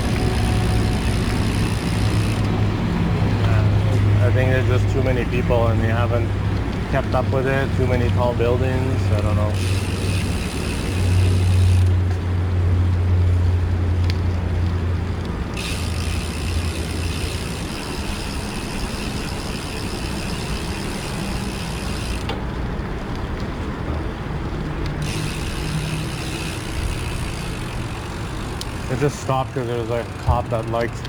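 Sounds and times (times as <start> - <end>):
bicycle freewheel ticking: 0.0 - 3.5, 6.0 - 12.1, 12.8 - 23.2, 24.5 - 31.0
road and wind rumble: 0.0 - 31.0
vehicle engine hum: 0.0 - 31.0.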